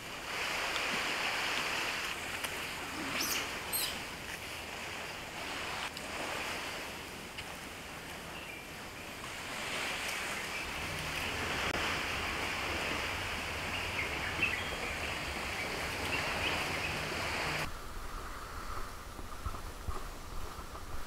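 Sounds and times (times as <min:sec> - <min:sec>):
rushing outdoor noise: 0:00.0 - 0:21.0
wind rumbling on microphone: 0:00.0 - 0:21.0.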